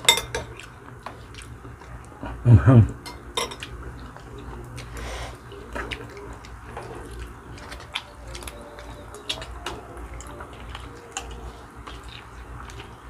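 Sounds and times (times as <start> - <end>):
wet chewing and sucking: 0.3 - 2.4, 3.6 - 13.0.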